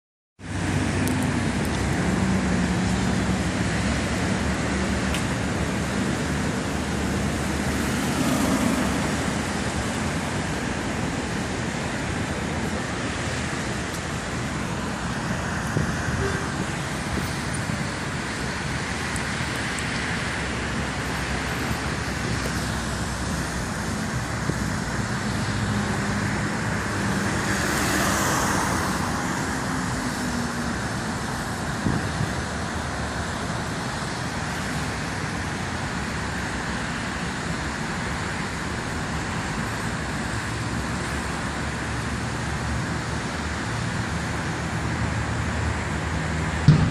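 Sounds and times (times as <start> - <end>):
traffic on wet road: 0.4 - 46.9.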